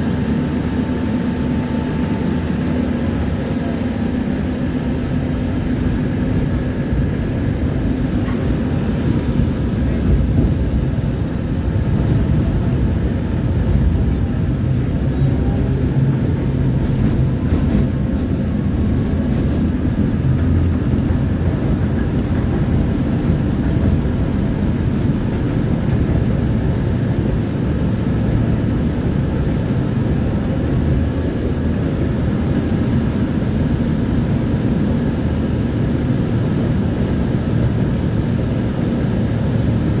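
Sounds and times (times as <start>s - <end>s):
tram wheels rumbling: 0.0s - 40.0s.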